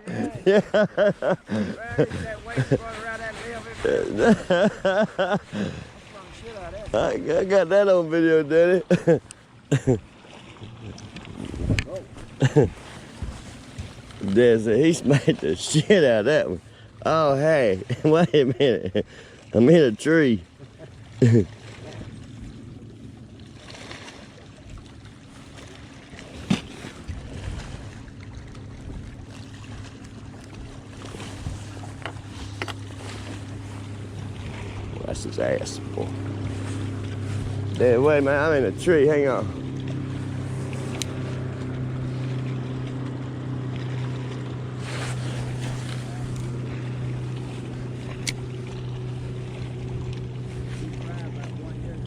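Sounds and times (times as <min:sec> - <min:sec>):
boat engine low hum: 0:00.0 - 0:52.0
water: 0:00.0 - 0:52.0
wind: 0:00.0 - 0:52.0.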